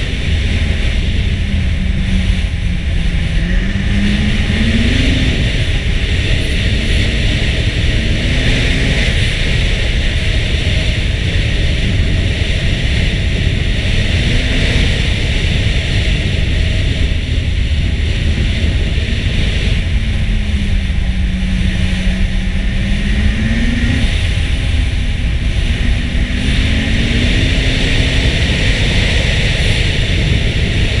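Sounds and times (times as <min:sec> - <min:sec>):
snowmobile engine: 0:00.0 - 0:31.0
wind buffeting microphone: 0:00.0 - 0:31.0.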